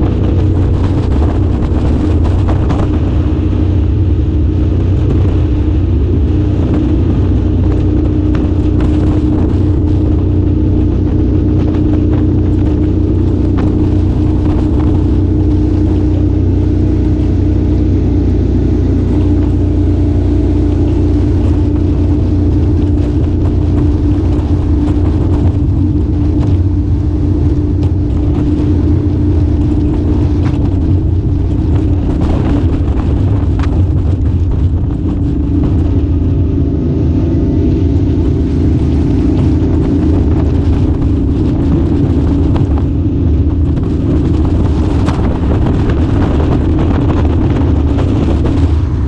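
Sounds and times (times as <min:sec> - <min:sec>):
boat motor droning: 0:00.0 - 0:49.0.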